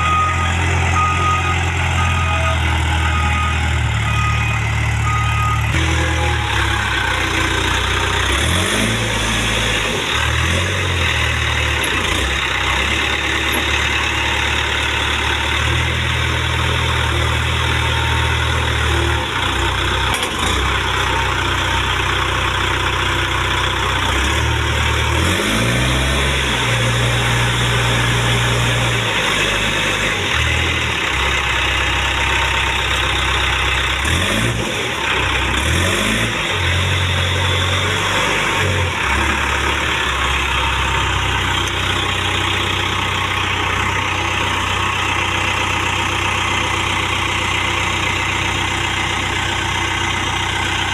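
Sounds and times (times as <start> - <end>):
diesel engine running and revving: 0.0 - 50.9.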